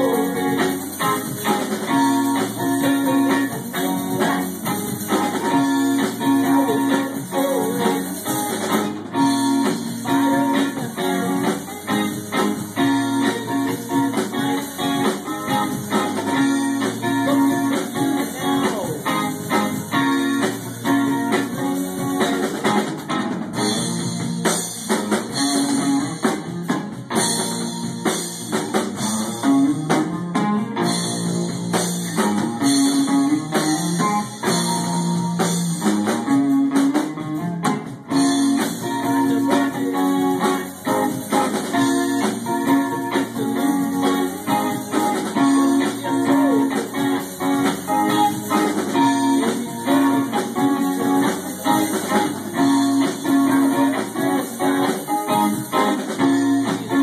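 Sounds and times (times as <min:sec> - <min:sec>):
electric guitar riff: 0:00.0 - 0:57.0.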